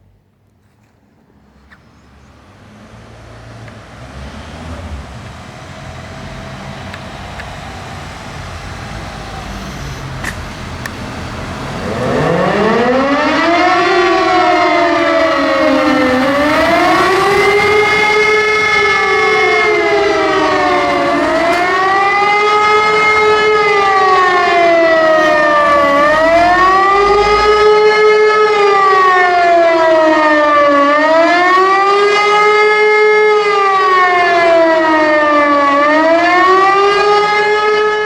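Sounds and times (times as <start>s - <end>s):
warning siren wailing: 4.0s - 38.0s.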